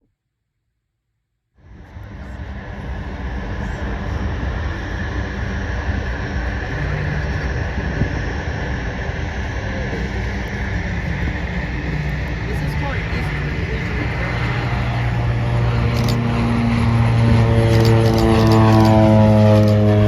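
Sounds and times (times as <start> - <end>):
large engine rumbling with whine: 1.6 - 20.0.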